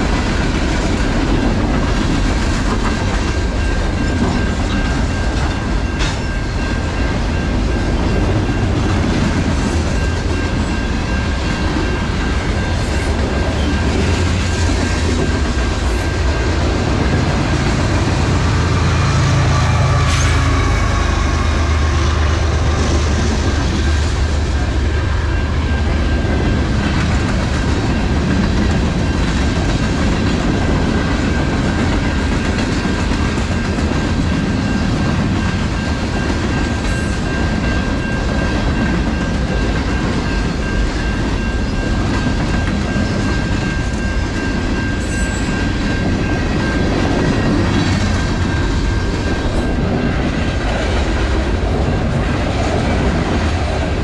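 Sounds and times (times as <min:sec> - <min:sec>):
freight train wheels clacking on rails: 0:00.0 - 0:54.0.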